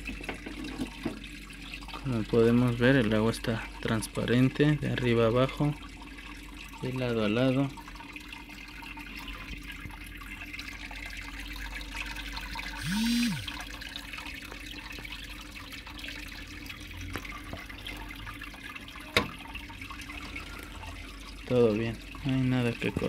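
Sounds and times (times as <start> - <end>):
aquarium filter water splashing: 0.0 - 23.0.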